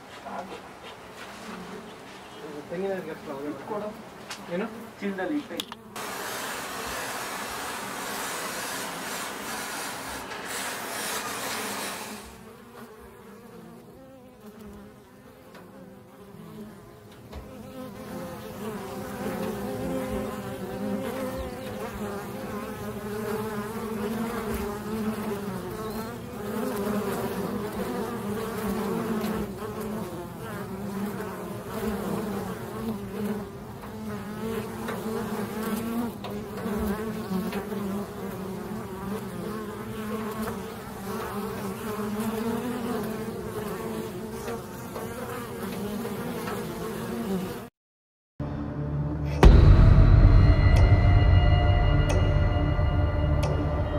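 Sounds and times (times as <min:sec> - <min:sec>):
bee swarm buzzing: 0:00.0 - 0:47.7.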